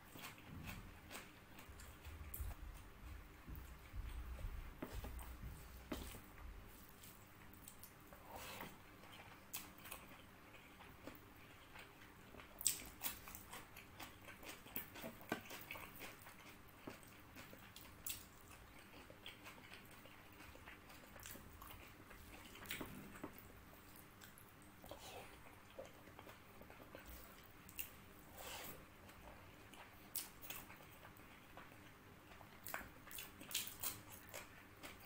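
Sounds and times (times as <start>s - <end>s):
person chewing food: 0.0s - 35.0s.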